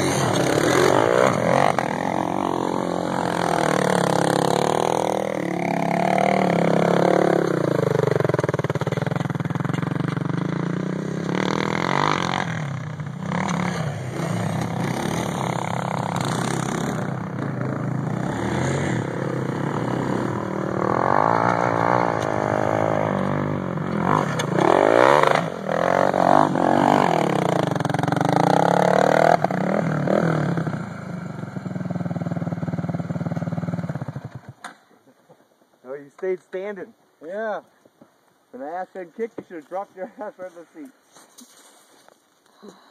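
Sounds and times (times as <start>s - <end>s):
atv engine revving: 0.0s - 34.7s.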